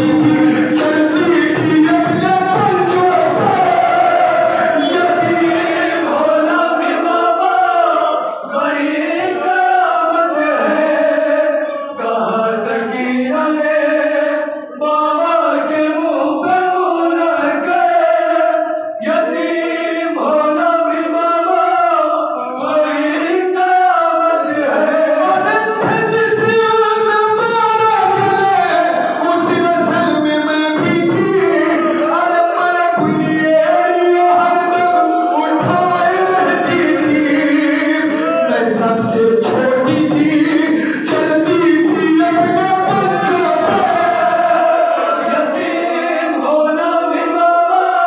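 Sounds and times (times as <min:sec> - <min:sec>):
man singing into a microphone: 0:00.0 - 0:48.0
men singing in chorus: 0:00.0 - 0:48.0.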